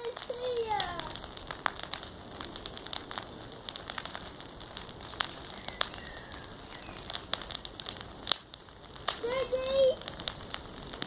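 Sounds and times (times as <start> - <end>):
bonfire crackling and popping: 0.0 - 11.0
fire hiss: 0.0 - 11.0.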